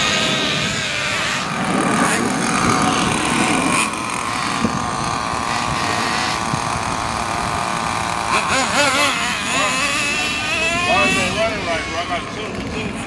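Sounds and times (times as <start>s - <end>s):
small engine high-pitched buzzing: 0.0s - 13.0s.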